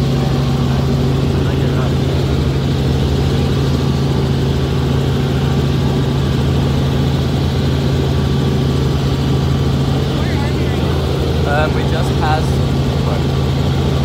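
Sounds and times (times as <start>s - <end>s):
helicopter engine and rotors droning: 0.0s - 14.0s.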